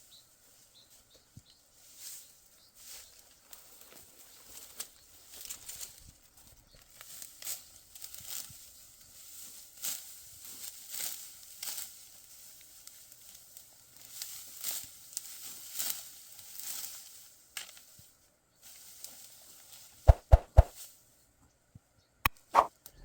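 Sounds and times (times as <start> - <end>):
dry wheat stalks rustling: 0.0 - 21.0.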